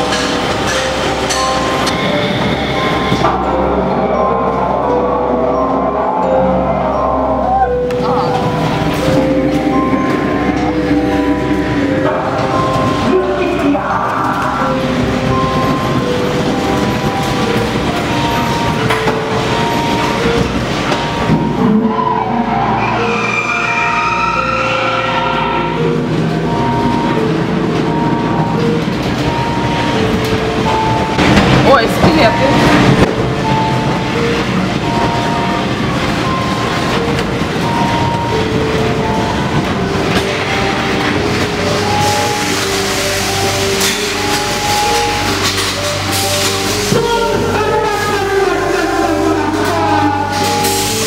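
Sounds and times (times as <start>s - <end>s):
ride car rumbling on track: 0.0s - 51.0s
sustained shifting tones: 0.0s - 51.0s.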